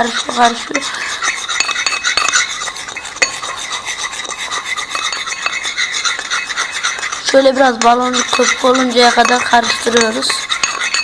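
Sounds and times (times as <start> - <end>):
spoon scraping slime on plate: 0.0 - 11.0.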